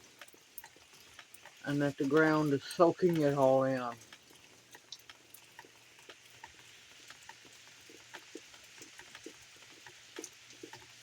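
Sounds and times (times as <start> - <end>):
steady rain falling: 0.0 - 11.0
drips plinking on surfaces: 0.1 - 10.9.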